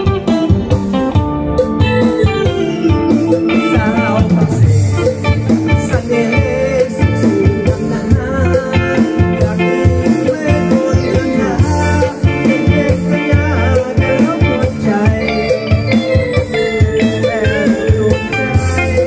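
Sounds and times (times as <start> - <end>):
drum and bass beat: 0.0 - 19.0
electric guitar: 0.0 - 19.0
keyboard: 0.0 - 19.0
man singing: 3.0 - 19.0.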